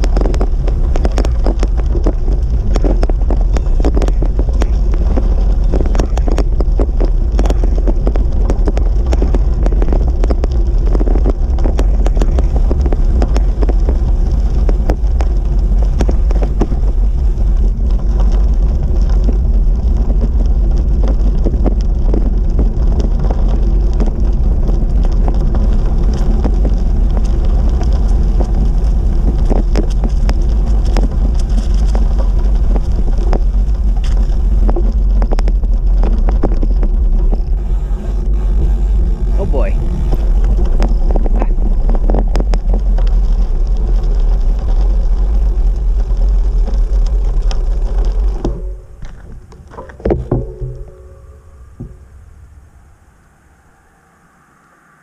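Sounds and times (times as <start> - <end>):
wind buffeting microphone: 0.0 - 54.1
constant crackle: 0.0 - 55.0.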